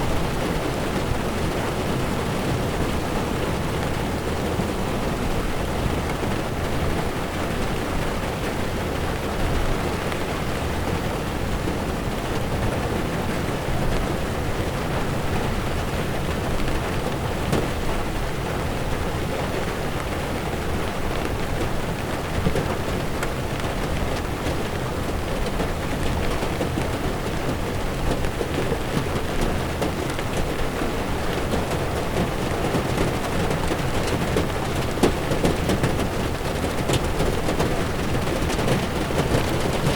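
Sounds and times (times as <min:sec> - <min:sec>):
heavy rain on car windshield: 0:00.0 - 0:39.9
tyres rumbling on wet road: 0:00.0 - 0:39.9.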